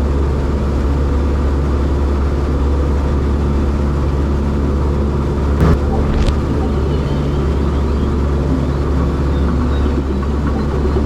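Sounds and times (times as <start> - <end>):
airplane engine drone in cockpit: 0.0 - 11.0.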